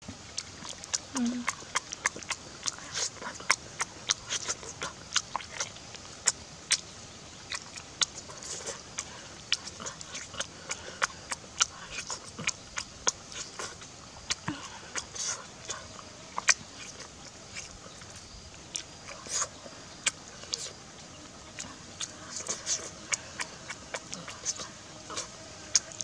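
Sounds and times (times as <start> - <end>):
wet chewing and lip-smacking: 0.1 - 26.0.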